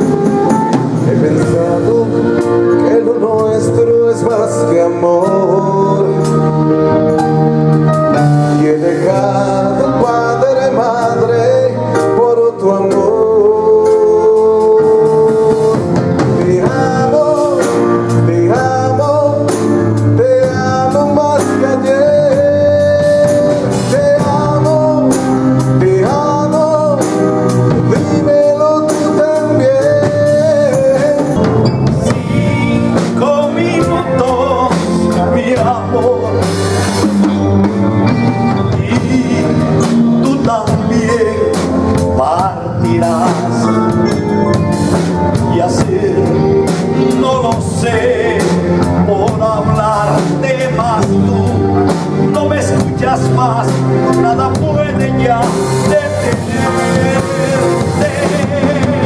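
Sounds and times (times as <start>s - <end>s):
bending lead melody: 0.0s - 59.0s
live band playing a ballad: 0.0s - 59.0s.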